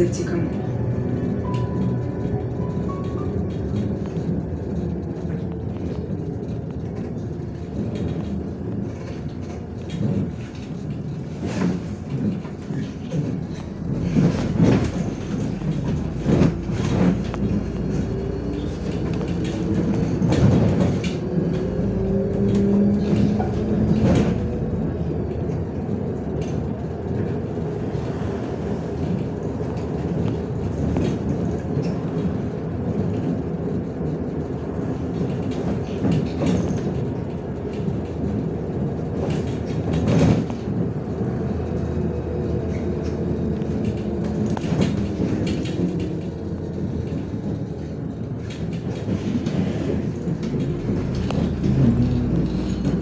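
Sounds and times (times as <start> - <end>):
bus engine and road rumble: 0.0 - 53.0
rattles and knocks from bus body: 0.1 - 53.0.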